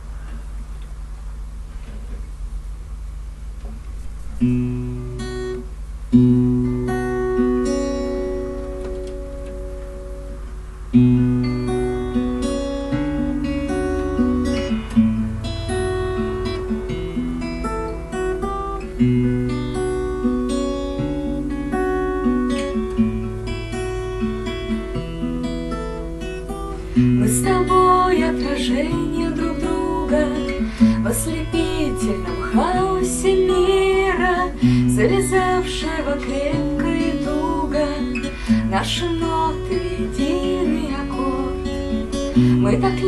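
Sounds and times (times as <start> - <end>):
steady low hum: 0.0 - 43.0
acoustic guitar strumming: 3.6 - 43.0.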